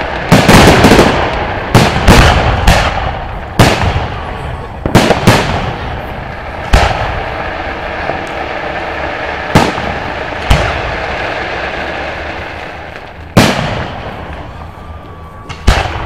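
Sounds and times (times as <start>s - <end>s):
firework shells booming: 0.0s - 14.7s, 15.4s - 16.0s.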